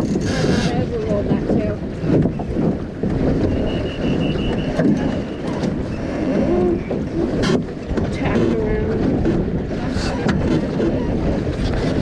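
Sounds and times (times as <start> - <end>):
water rushing along boat hull: 0.0 - 12.0
wind buffeting microphone: 0.0 - 12.0.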